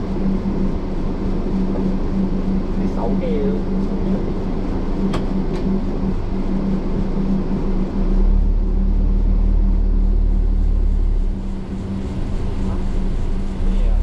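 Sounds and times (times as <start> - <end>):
coach engine hum with road noise: 0.0 - 14.0
deep low rumble: 0.0 - 14.0.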